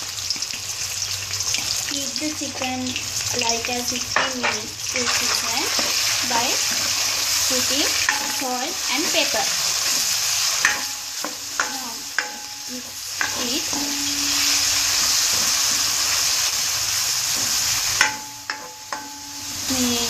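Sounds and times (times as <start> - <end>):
food sizzling in hot oil: 0.0 - 20.0
spatula scraping wok: 1.4 - 20.0.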